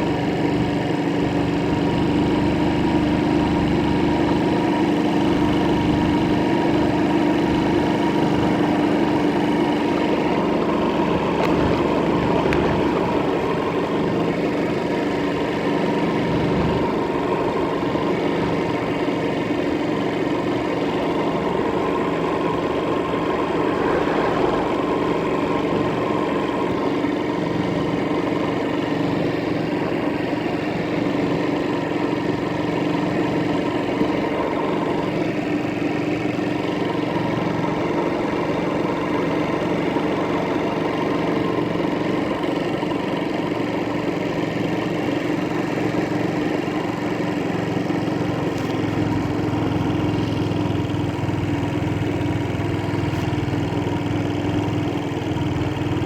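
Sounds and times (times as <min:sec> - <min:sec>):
engine droning steadily: 0:00.0 - 0:56.0.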